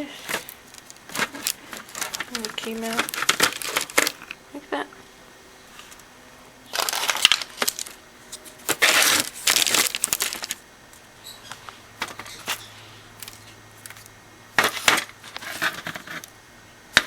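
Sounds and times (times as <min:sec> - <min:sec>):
rustling and crunching on paper: 0:00.0 - 0:04.4, 0:05.6 - 0:16.3.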